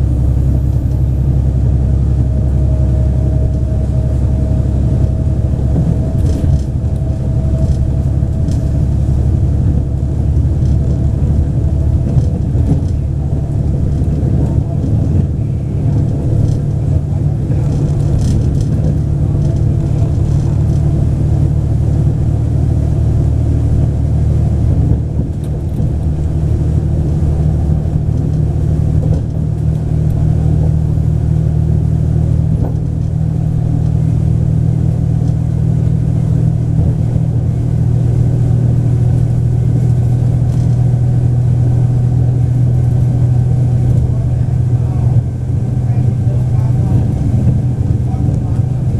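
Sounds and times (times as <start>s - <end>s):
train diesel engine drone: 0.0s - 48.9s.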